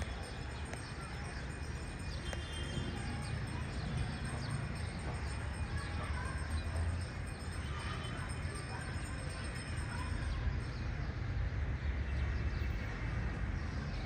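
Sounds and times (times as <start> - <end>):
low rumble of city ambience: 0.0 - 14.0.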